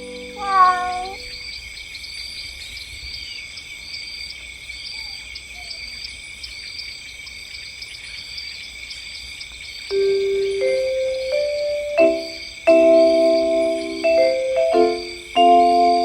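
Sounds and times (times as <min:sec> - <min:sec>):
insect chirp: 0:00.0 - 0:16.0
insects droning: 0:00.0 - 0:16.0.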